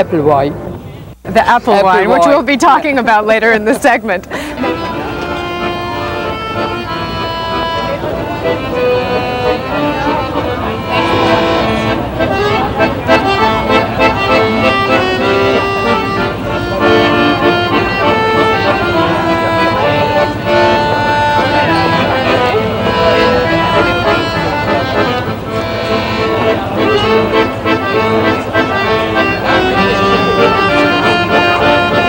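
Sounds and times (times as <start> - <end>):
accordion melody over chords: 0.0 - 32.0.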